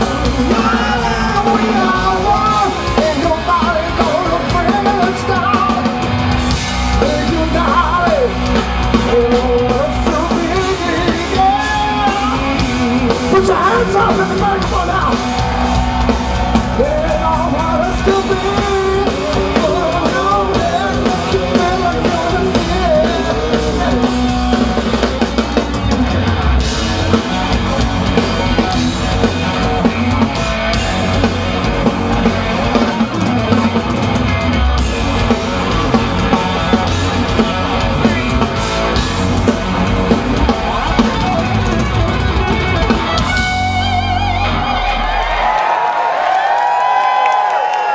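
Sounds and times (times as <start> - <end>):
live rock band playing loudly: 0.0 - 47.9.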